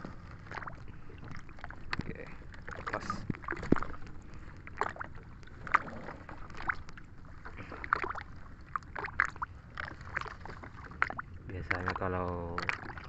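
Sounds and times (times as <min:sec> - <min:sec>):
water splashing and dripping: 0:00.3 - 0:13.0.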